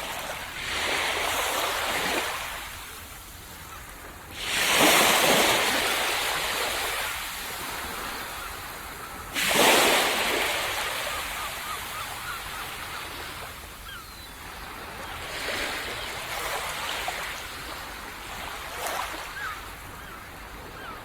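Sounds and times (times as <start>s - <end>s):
ocean waves breaking on beach: 0.0s - 21.0s.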